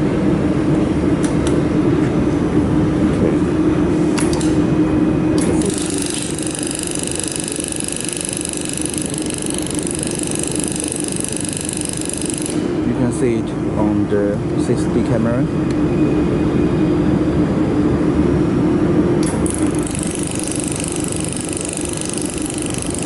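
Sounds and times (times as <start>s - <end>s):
high whine of steady tones: 0.0s - 23.0s
machine hum: 0.0s - 23.0s.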